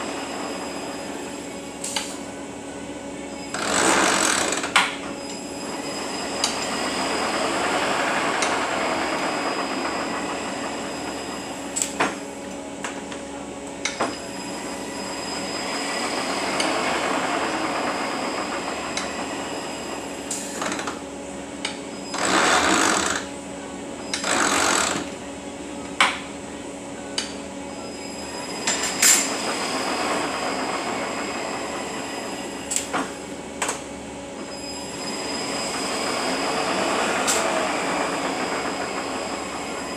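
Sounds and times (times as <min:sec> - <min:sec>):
truck transmission gear whine: 0:00.0 - 0:39.9.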